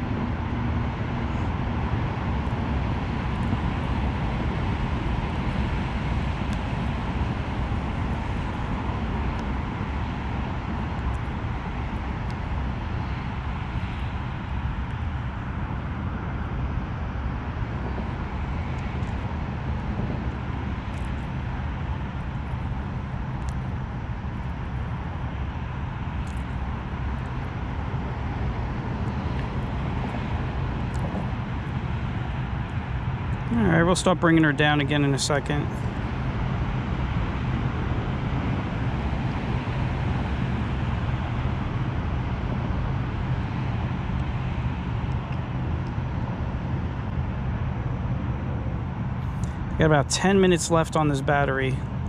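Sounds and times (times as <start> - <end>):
distant highway traffic rumble: 0.0 - 52.0.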